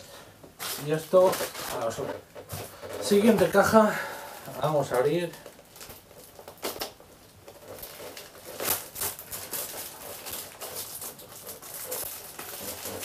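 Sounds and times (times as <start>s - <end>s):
plastic packaging crinkling and tearing: 0.6s - 13.0s.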